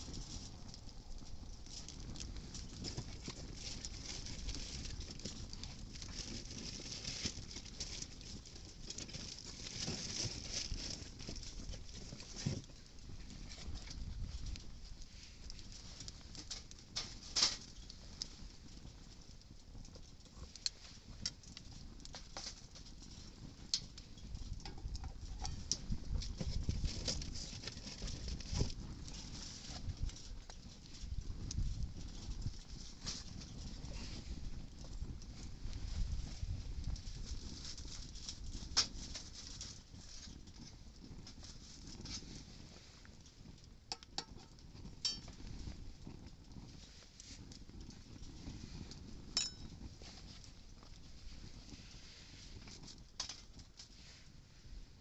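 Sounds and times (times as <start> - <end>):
campfire crackling and popping: 0.0 - 55.0
wind rumbling on microphone: 0.0 - 55.0.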